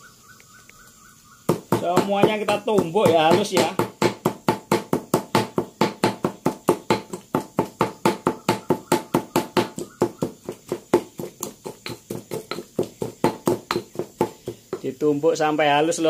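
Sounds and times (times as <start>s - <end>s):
mortar and pestle pounding: 1.5s - 15.0s.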